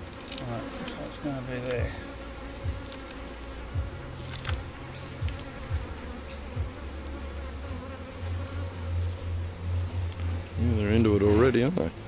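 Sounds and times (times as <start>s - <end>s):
bees flying past: 0.0s - 12.0s
honeybees buzzing: 0.0s - 12.0s.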